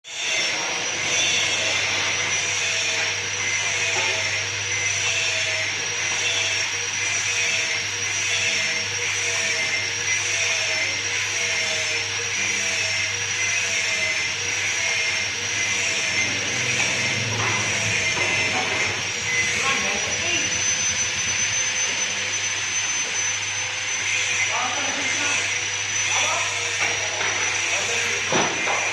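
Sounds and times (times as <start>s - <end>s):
motor whining and humming: 0.1s - 28.9s.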